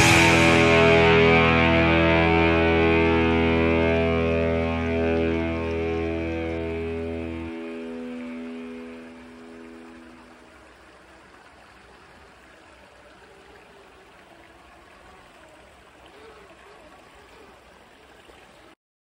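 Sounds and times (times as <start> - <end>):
faint wavering tones: 0.0 - 18.4
stream flowing over stones: 2.0 - 18.8.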